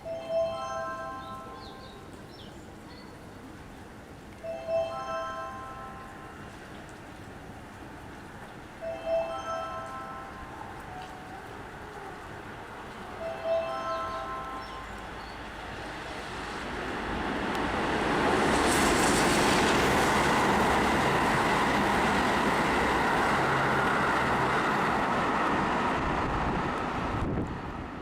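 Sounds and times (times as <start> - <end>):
electric train passing: 0.0 - 2.3, 4.1 - 7.3, 8.2 - 28.0.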